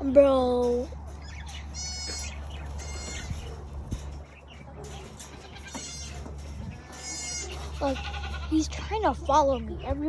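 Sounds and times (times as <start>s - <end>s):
farm animals calling: 1.0s - 10.0s.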